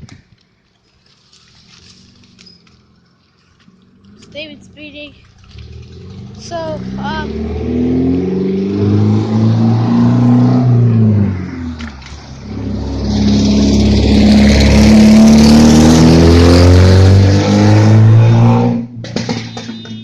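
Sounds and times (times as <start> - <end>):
car with loud exhaust revving: 3.7 - 20.0.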